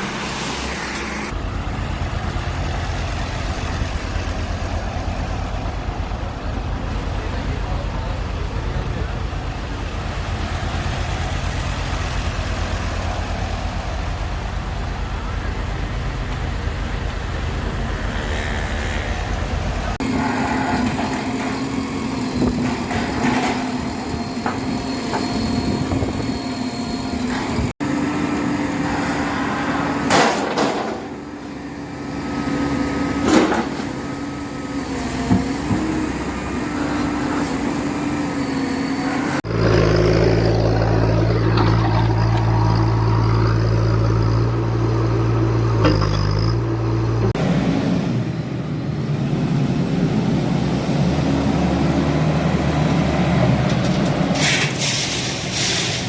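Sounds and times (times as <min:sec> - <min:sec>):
heavy construction machine engines: 0:00.0 - 0:56.0.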